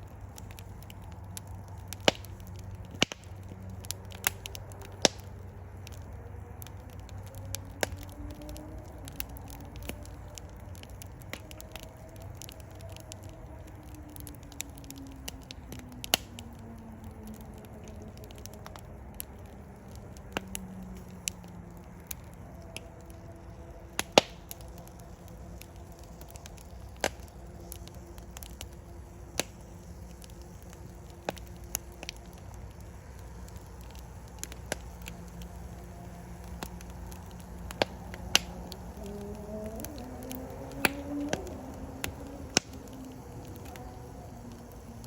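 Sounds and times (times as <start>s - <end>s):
fire flame rumble: 0.0s - 45.0s
fire pops and crackles: 0.0s - 45.0s.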